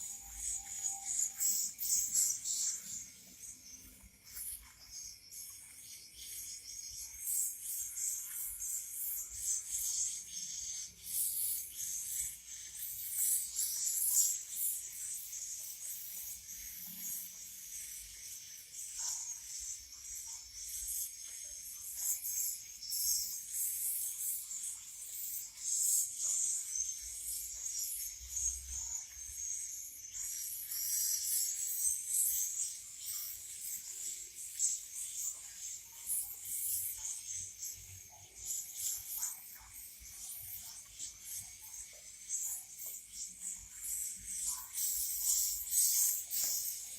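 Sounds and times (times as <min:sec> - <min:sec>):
bird chicks chittering: 0:00.0 - 0:46.9.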